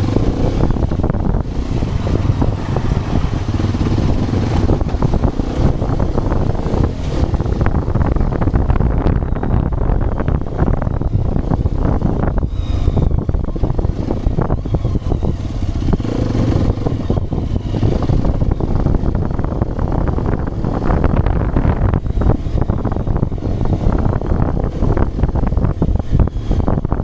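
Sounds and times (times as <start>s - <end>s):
motorcycle engine running: 0.0s - 27.0s
wind buffeting microphone: 0.0s - 27.0s.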